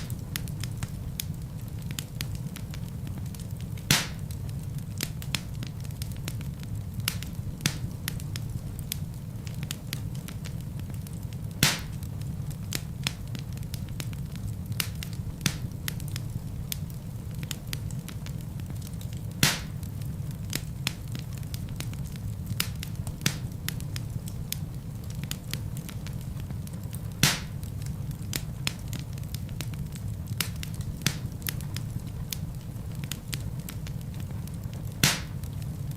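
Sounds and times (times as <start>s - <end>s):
burning logs crackling and popping: 0.0s - 35.9s
low rumble of flames: 0.0s - 35.9s.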